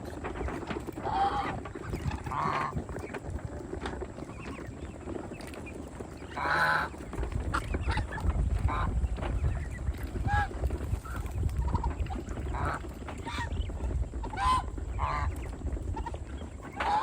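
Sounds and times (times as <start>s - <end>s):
geese honking: 0.1s - 17.0s.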